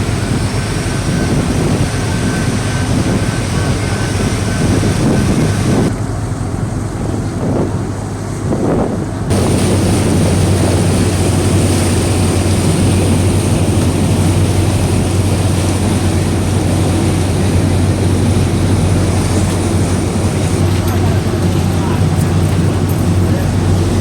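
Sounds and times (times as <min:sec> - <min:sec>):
boat engine droning: 0:00.0 - 0:24.0
rushing wind: 0:00.0 - 0:24.0
water noise: 0:00.0 - 0:24.0.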